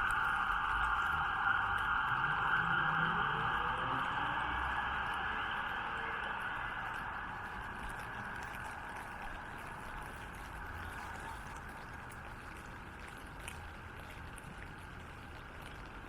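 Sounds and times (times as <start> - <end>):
rain and running water on street: 0.0 - 16.0.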